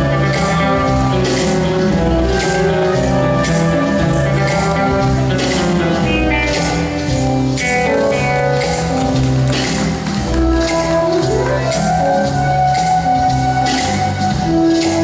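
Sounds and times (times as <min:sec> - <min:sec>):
slow foxtrot dance music: 0:00.0 - 0:15.0.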